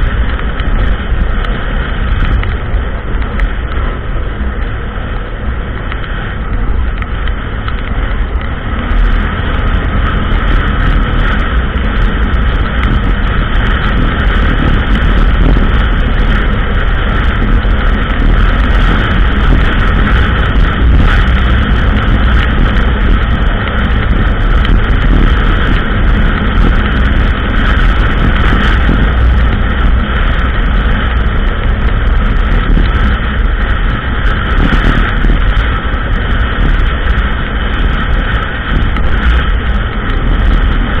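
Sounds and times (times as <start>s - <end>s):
quad bike engine running: 0.0s - 41.0s.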